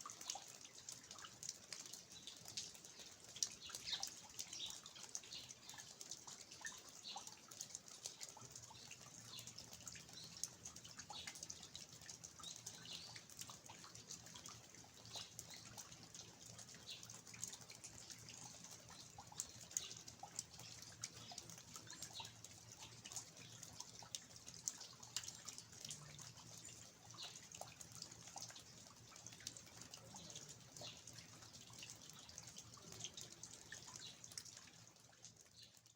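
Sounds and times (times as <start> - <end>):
faint rain hiss: 0.0 - 35.9
water dripping from eaves: 0.0 - 35.9.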